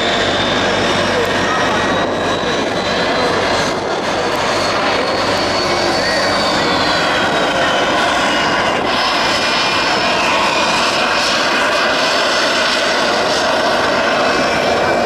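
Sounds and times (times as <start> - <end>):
jet engine whining: 0.0 - 15.0.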